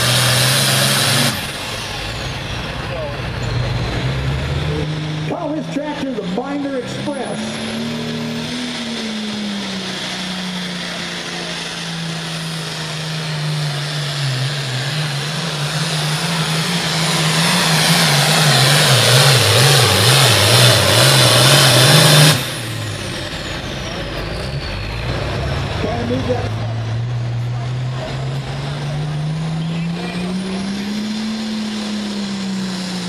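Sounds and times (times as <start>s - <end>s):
diesel tractor engine at full power: 0.0s - 33.0s
turbo whine winding down: 0.0s - 33.0s.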